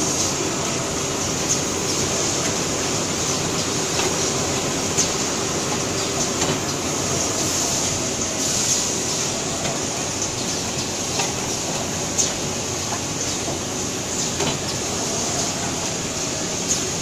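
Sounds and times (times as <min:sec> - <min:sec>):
packing machine running: 0:00.0 - 0:17.0.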